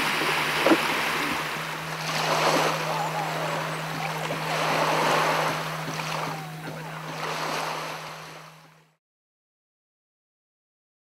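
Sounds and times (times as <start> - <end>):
sea waves washing: 0.0 - 8.9
low steady hum: 0.0 - 9.0.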